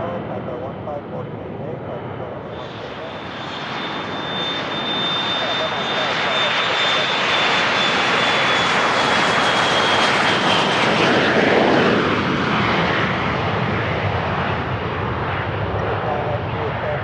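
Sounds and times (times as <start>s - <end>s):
jet engines rushing with high whine: 0.0s - 17.0s.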